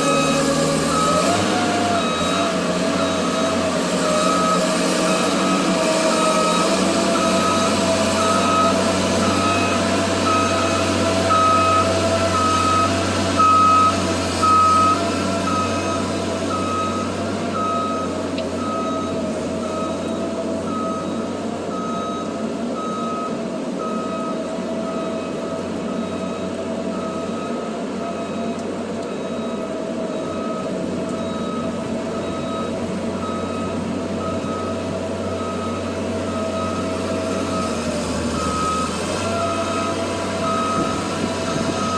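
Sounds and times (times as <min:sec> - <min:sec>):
truck backup alarm beeping: 0:00.0 - 0:41.9
truck engine running: 0:00.0 - 0:41.9.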